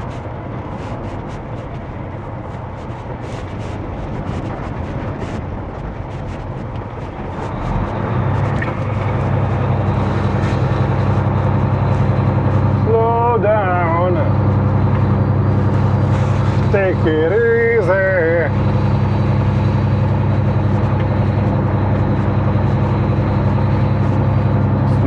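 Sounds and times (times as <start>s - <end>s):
road noise: 0.0s - 25.0s
truck diesel engine: 0.0s - 25.0s.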